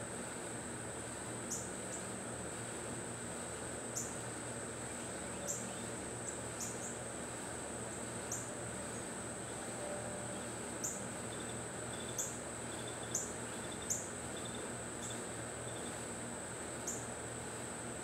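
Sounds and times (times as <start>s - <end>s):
insects trilling: 1.4s - 18.0s.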